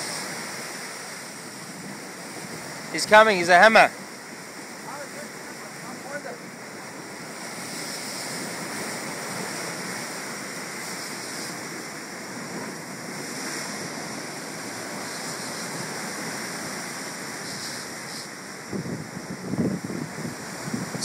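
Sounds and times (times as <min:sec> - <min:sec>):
surf against rocks: 0:00.0 - 0:21.0.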